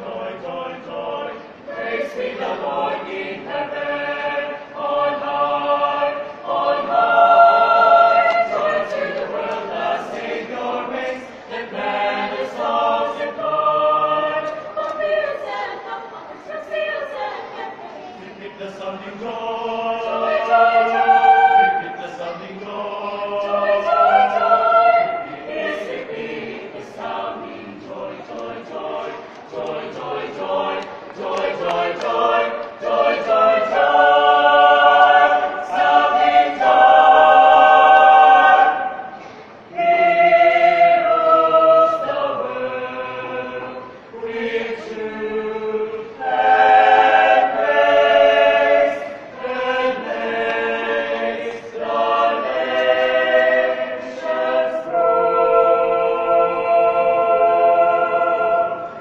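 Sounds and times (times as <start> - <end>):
choir breaths: 0.0 - 59.0
choir singing in harmony: 0.0 - 59.0.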